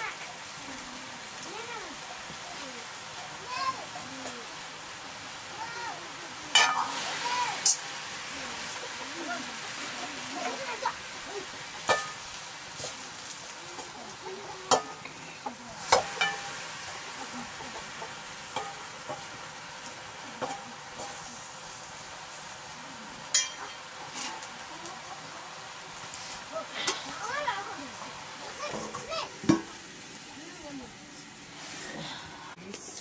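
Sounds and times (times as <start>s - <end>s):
greens sizzling in a wok: 0.0s - 33.0s.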